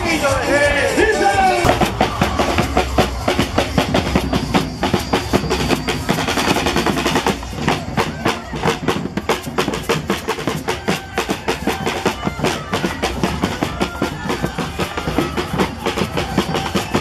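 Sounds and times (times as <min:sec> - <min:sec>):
drummers playing fast rhythm: 0:00.0 - 0:17.0
voices: 0:00.0 - 0:17.0.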